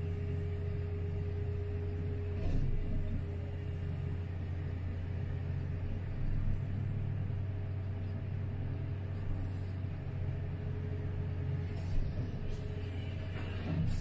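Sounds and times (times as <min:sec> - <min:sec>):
excavator engine drone: 0:00.0 - 0:14.0
faint hydraulic whine: 0:00.0 - 0:14.0.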